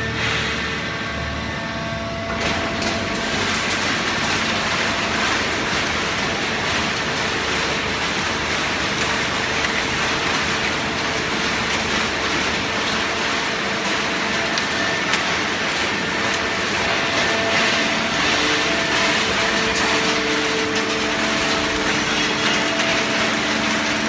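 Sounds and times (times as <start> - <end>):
hydraulic baler running: 0.0 - 24.0.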